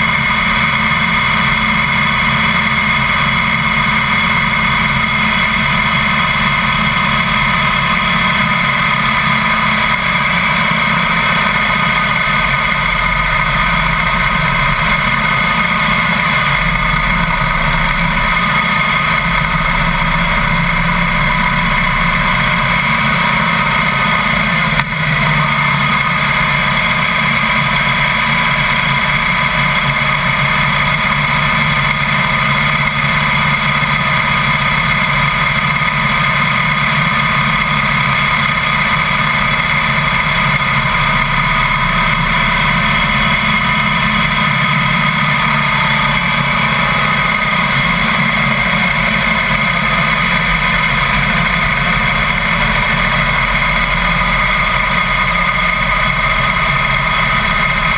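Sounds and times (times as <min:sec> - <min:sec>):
motorcycle engine cruising: 0:00.0 - 0:57.9
road noise: 0:00.0 - 0:57.9.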